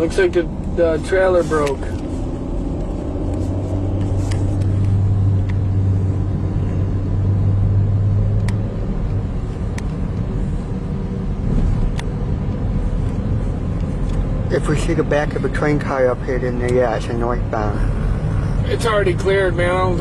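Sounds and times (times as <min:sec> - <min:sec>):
car engine hum: 0:00.0 - 0:20.0.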